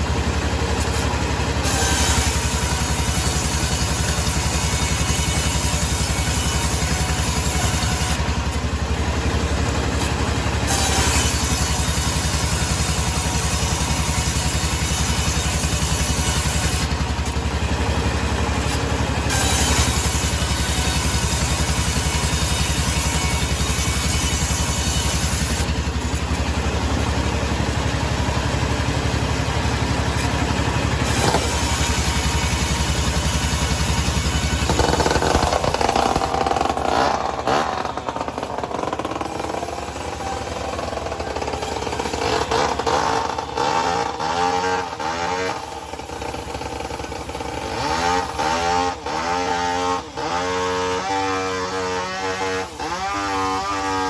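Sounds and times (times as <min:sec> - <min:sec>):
sawmill engine throbbing: 0:00.0 - 0:54.0.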